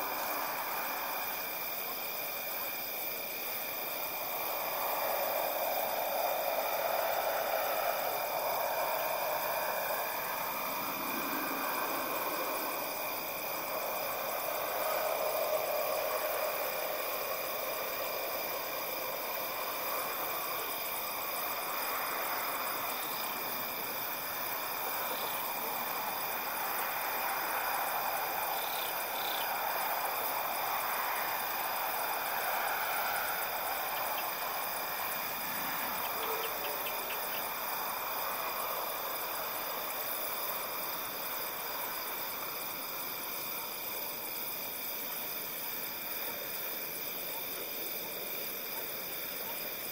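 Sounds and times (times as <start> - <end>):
distant traffic: 0.0 - 49.7
night insects trilling: 0.0 - 49.9.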